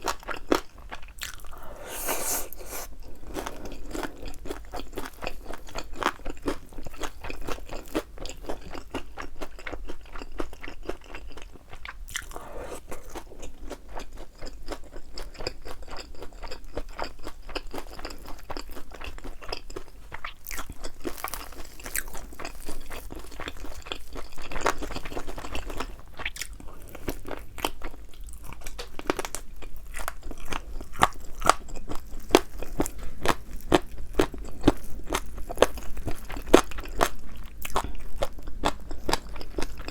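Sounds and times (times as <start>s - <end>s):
crunching fried chicken: 0.0s - 39.9s.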